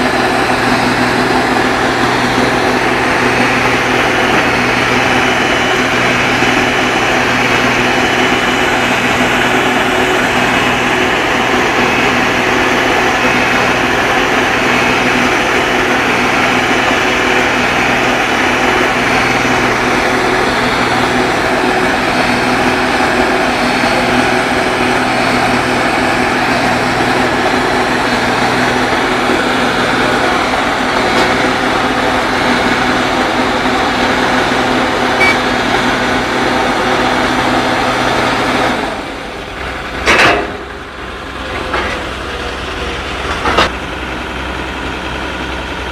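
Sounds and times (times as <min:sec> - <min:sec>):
diesel excavator engine running: 0:00.0 - 0:45.9.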